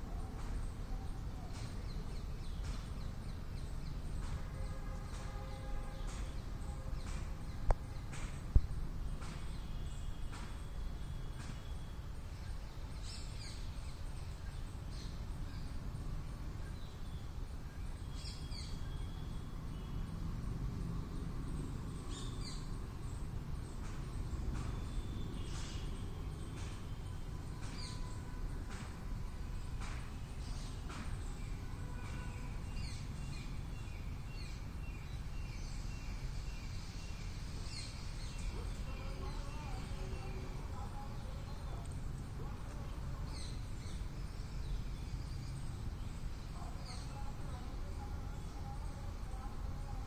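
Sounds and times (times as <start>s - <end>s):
birds chirping: 0.0s - 50.0s
low rumble of outdoor noise: 0.0s - 50.0s.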